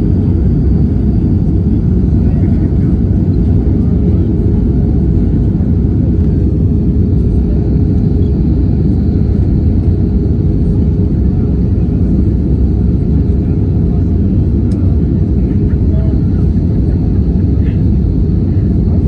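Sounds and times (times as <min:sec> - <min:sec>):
airliner engines rumbling: 0:00.0 - 0:19.0
constant droning hum: 0:00.0 - 0:19.0.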